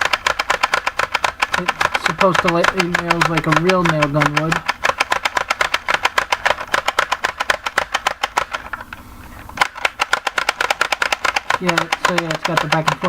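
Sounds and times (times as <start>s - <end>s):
toy nail gun clicking rapidly: 0.0s - 13.0s.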